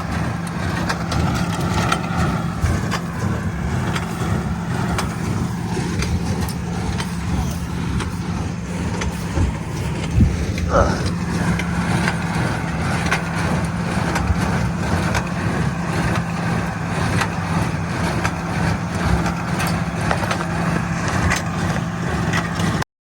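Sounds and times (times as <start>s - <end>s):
hay baler knocks and rattles: 0.0s - 22.8s
tractor engine droning: 0.0s - 22.8s.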